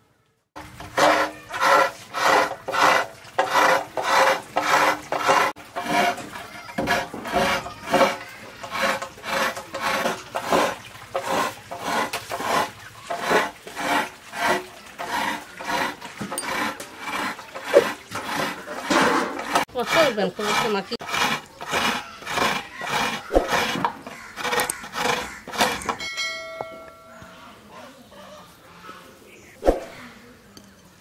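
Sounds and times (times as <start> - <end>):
stone roller rasping on slab: 0.6 - 26.8.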